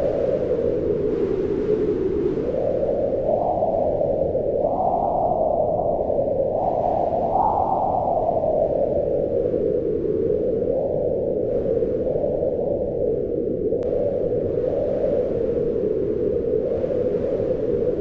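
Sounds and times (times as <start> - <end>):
wind howling in gusts: 0.0 - 18.0.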